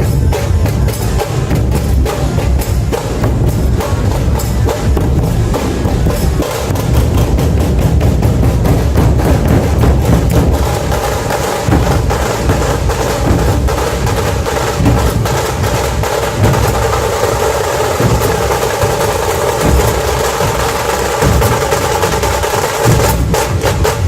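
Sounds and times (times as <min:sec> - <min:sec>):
deep booming drum beats: 0:00.0 - 0:24.0
rapid dense drum strokes: 0:00.0 - 0:24.0.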